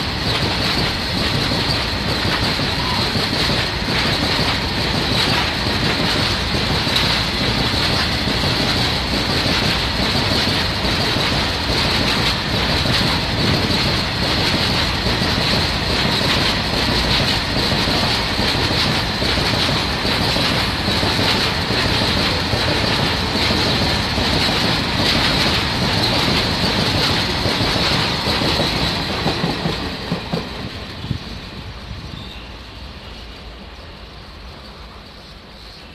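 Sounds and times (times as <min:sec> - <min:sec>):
train wheels clattering on rails: 0:00.0 - 0:35.9.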